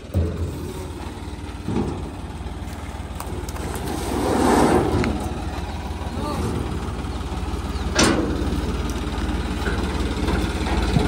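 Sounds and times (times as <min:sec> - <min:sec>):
engine running with low throb: 0:00.0 - 0:11.0.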